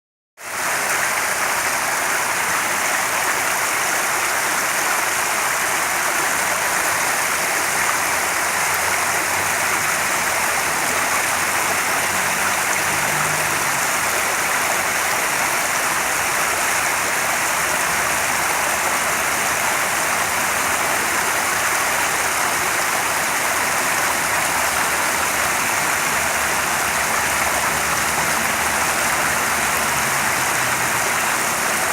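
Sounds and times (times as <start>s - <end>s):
stream water rushing: 0.4s - 31.9s.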